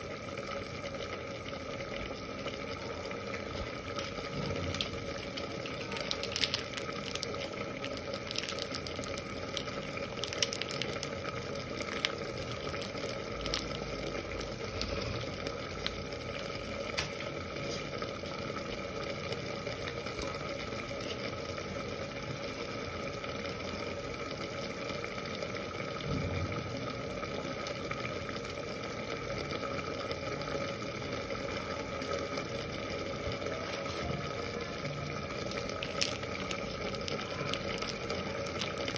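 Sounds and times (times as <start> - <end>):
crackles: 0.0 - 38.9
meat sizzling and bubbling: 0.0 - 38.9.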